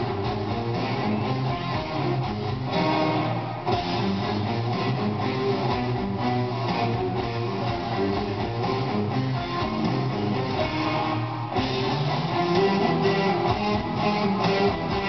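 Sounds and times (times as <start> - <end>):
electric guitars: 0.0 - 15.0
rock band playing live: 0.0 - 15.0.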